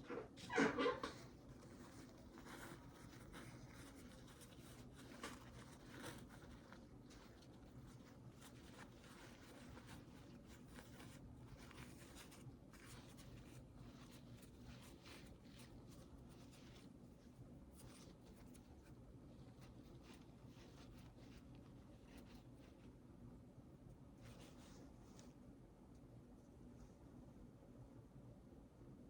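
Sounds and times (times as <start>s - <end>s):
tissue rustling in nostril: 0.3s - 23.1s, 23.7s - 25.5s.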